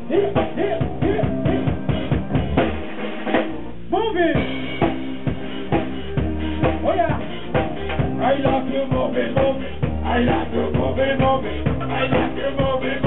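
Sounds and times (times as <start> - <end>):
bass line: 0.0 - 13.0
drum kit beat: 0.0 - 13.0.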